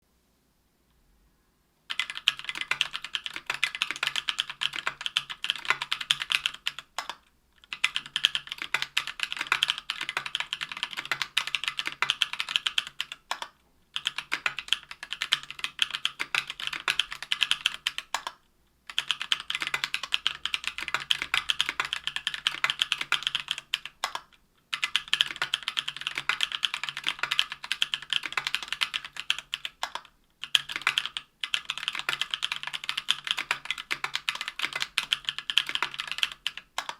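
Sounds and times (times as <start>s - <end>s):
fast mechanical keyboard typing: 1.9s - 36.9s.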